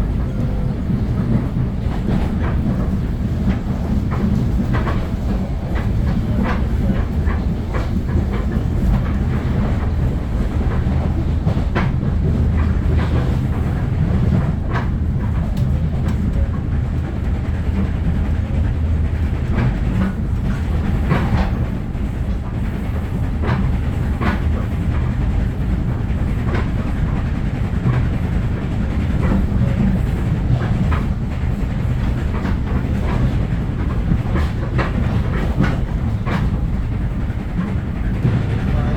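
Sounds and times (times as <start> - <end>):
train rumbling on rails: 0.0 - 38.9.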